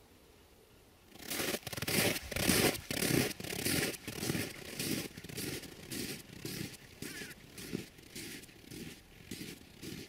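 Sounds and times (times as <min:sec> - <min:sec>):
footsteps crunching in snow: 0:01.1 - 0:10.0.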